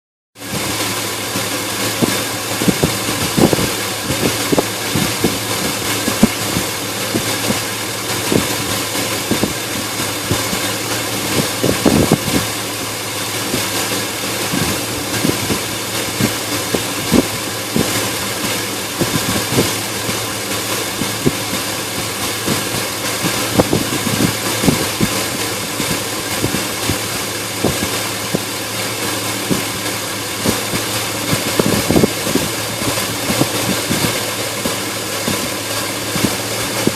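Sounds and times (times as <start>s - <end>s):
car engine idling roughly: 0.4s - 36.9s
engine misfire pops: 0.4s - 36.9s.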